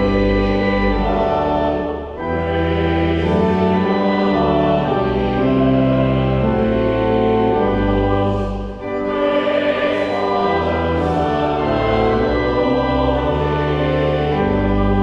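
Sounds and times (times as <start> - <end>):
choir singing: 0.0 - 15.0
organ playing: 0.0 - 15.0.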